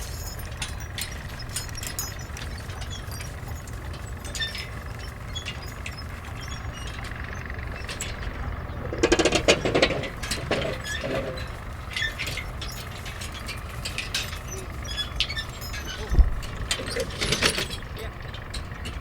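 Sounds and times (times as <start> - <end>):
metallic clinks and clicks: 0.0 - 19.0
rapid mechanical rattling: 0.0 - 19.0
steady low hum: 0.0 - 19.0.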